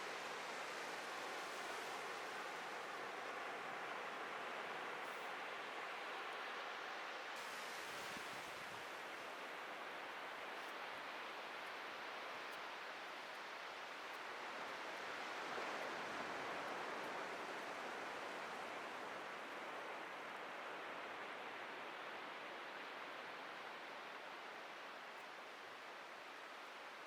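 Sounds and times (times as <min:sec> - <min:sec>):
ocean waves breaking on beach: 0:00.0 - 0:24.9.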